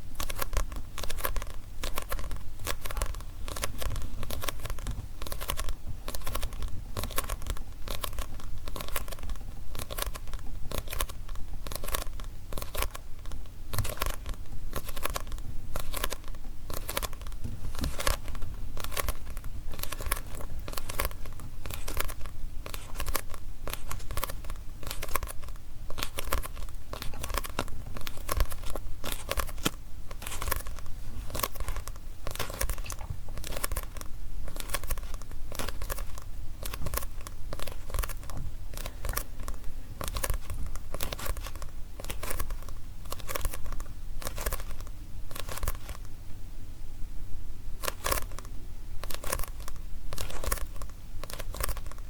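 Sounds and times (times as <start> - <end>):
fingers tapping on book: 0.0 - 46.1, 47.8 - 52.0.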